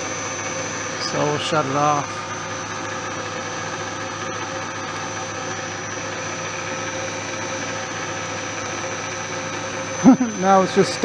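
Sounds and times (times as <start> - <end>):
electric motor hum with whine: 0.0 - 11.0.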